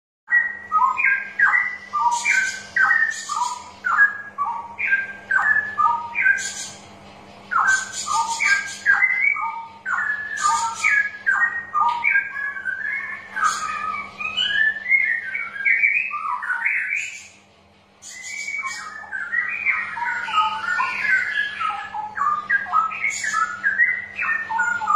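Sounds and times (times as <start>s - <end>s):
bird singing whistled phrases: 0.3s - 6.8s, 7.5s - 17.4s, 18.0s - 24.9s.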